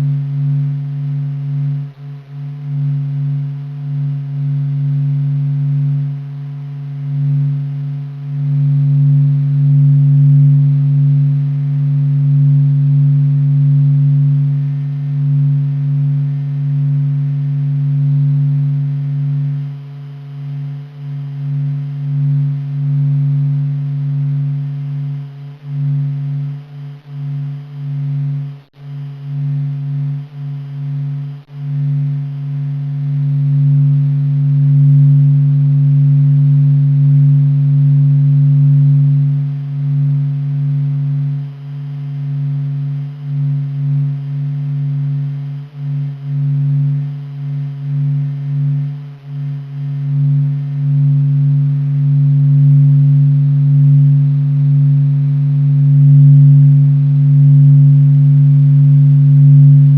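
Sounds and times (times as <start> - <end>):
deep steady drone: 0.0 - 59.9
faint higher tone: 0.0 - 59.9.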